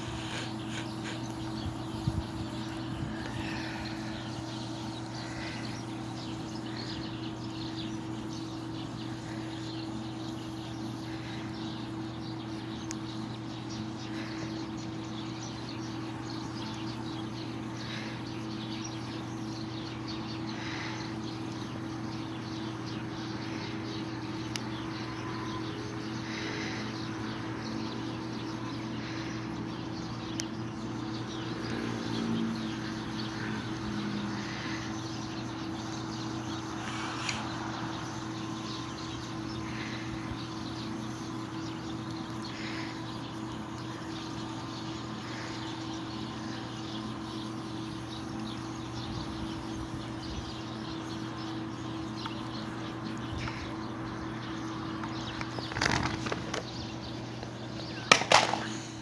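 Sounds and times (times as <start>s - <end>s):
bird chirps: 0.0s - 59.0s
low hum and hiss: 0.0s - 59.0s.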